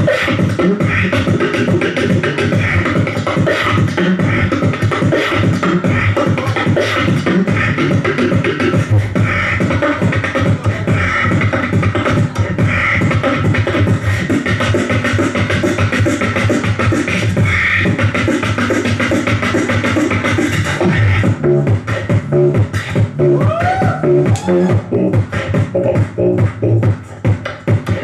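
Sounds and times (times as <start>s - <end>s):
amplified beatboxing: 0.0s - 28.0s
heavy bass: 0.0s - 28.0s.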